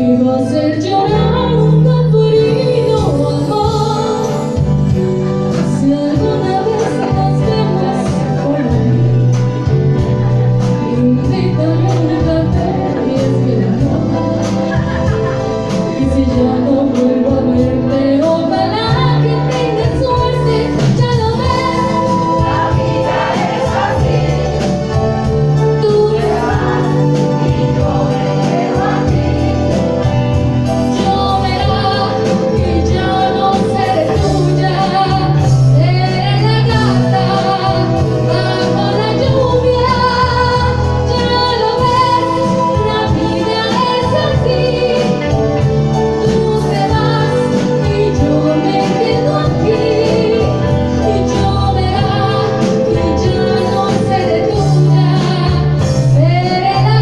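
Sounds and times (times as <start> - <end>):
live band playing a ballad: 0.0 - 57.0
several voices singing together: 10.6 - 57.0.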